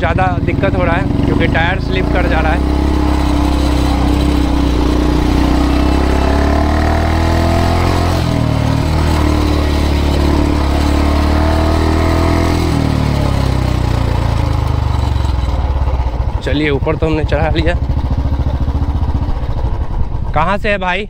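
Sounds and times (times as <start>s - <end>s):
motorcycle engine climbing: 0.0s - 21.0s.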